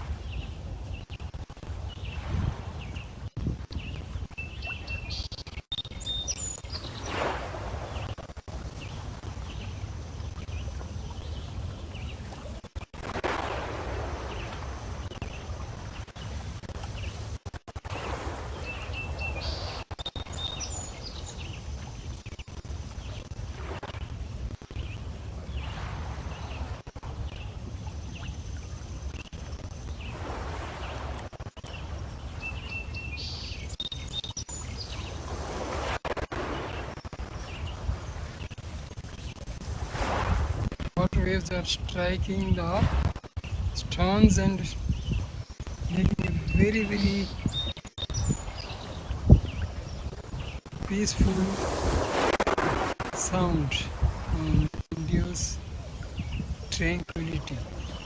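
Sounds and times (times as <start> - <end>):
waves lapping against stones: 0.0 - 58.0.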